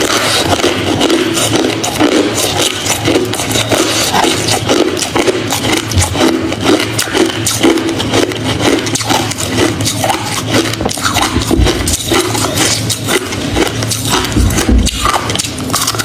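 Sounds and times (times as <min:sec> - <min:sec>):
ice being chewed: 0:00.0 - 0:16.0.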